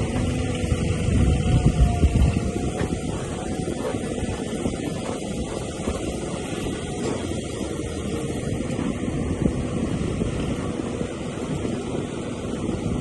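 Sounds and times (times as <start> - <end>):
heavy machinery engine rumbling: 0.0 - 13.0.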